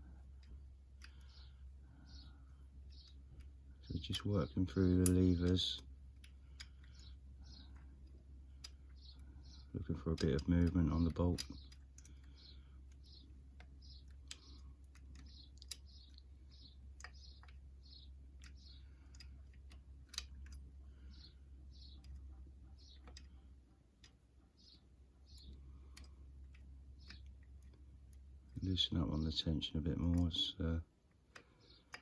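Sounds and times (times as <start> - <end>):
lock pick clicking and scraping: 0.0 - 28.6
low steady hum: 0.0 - 32.0.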